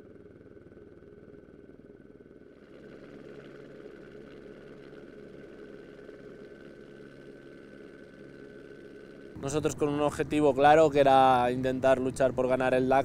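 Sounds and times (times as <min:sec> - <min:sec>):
engine running steadily: 0:00.0 - 0:13.0
faint high whine: 0:00.0 - 0:13.0.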